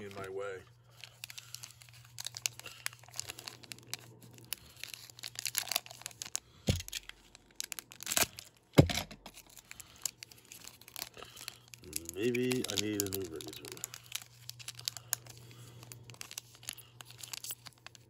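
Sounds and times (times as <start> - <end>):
foil wrapper crinkling: 0.0 - 18.0.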